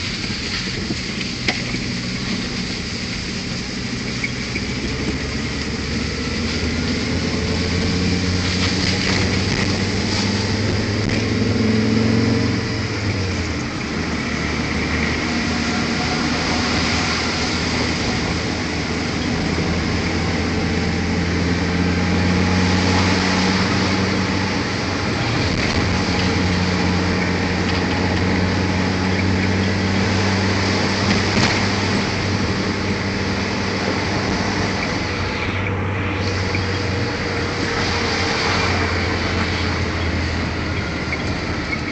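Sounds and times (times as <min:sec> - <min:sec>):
road and wind noise: 0:00.0 - 0:41.9
vehicle engine running: 0:00.0 - 0:41.9.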